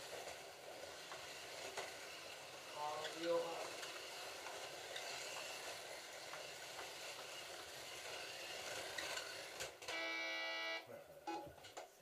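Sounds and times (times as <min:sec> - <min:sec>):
slot cars whirring: 0:00.0 - 0:10.1.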